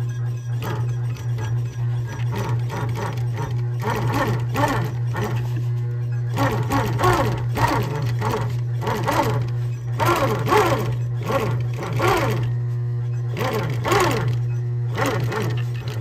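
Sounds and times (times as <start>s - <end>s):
sewing machine stitching: 0.0s - 5.7s, 6.3s - 16.0s.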